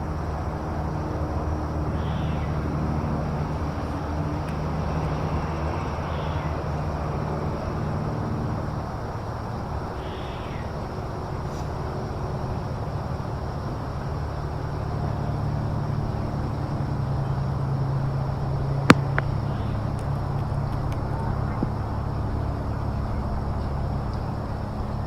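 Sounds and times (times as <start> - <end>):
low engine drone: 0.0 - 25.0.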